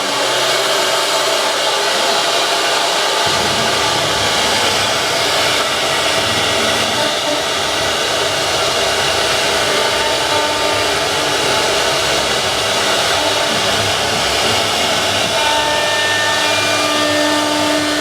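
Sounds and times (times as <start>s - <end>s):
cnc router whining: 0.0s - 18.0s.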